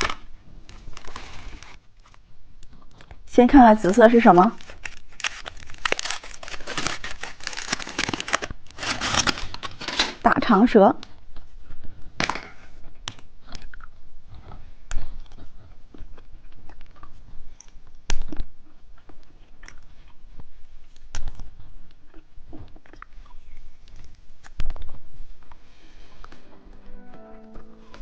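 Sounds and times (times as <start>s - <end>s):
chewing and crunching candy: 0.0s - 10.2s, 11.0s - 26.4s.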